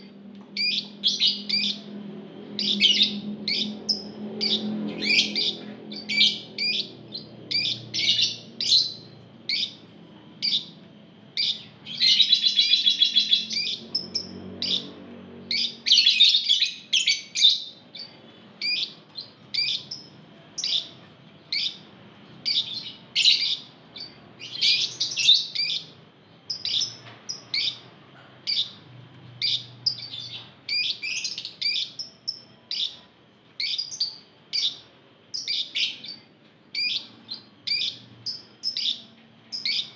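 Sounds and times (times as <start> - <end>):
lovebirds chirping: 0.0 - 33.0, 33.6 - 39.9.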